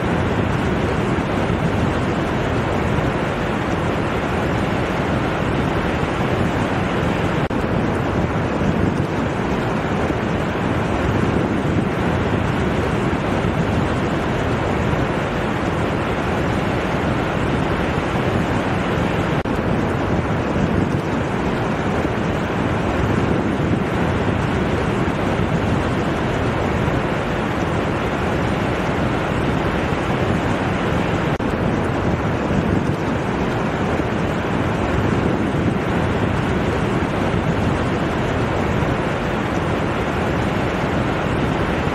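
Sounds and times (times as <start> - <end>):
ocean surf breaking on beach: 0.0 - 41.9.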